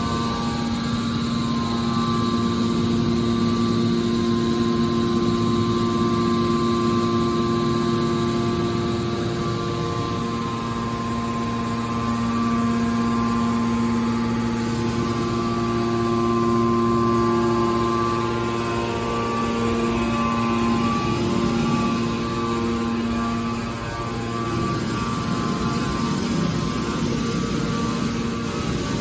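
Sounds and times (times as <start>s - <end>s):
hydraulic baler humming: 0.0s - 29.0s.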